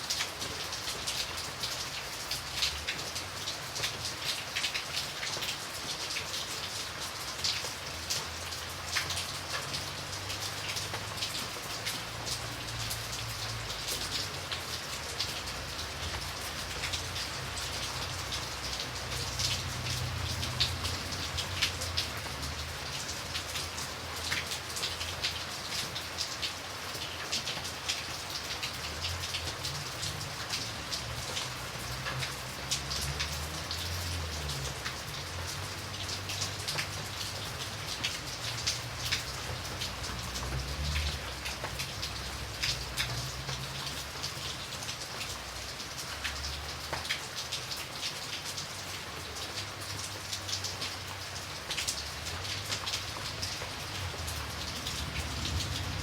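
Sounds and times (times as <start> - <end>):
rain drops ticking on a surface: 0.0 - 56.0
rain hiss: 0.0 - 56.0.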